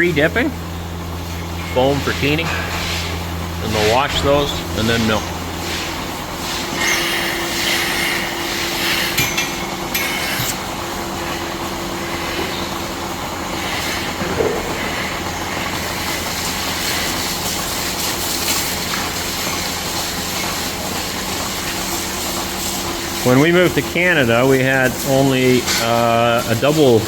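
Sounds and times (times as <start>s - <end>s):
machine hum: 0.0s - 25.7s
milking machine pulsators clicking: 0.0s - 27.0s.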